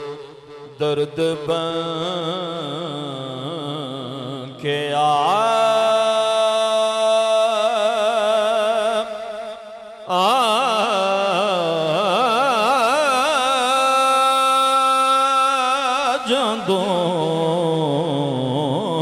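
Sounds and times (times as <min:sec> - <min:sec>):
man singing with vibrato: 0:00.0 - 0:19.0.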